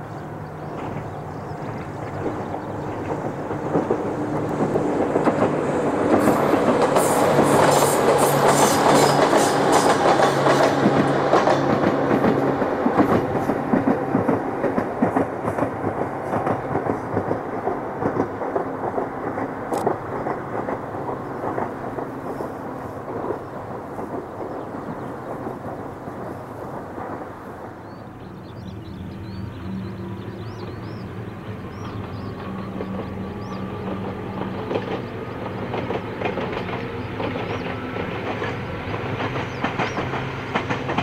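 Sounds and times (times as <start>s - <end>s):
electric train passing: 0.0s - 41.0s.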